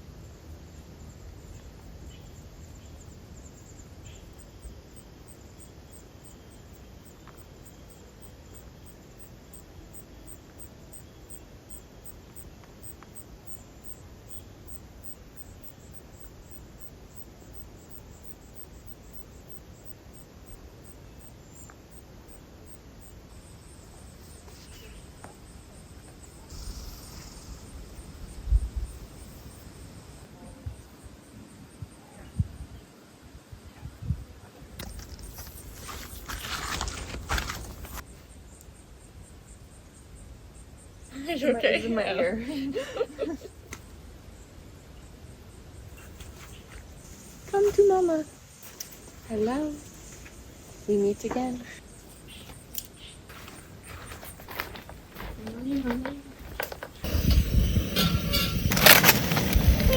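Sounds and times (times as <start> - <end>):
crickets chirping: 0.0 - 33.6, 34.6 - 59.9
rustle: 0.0 - 59.9.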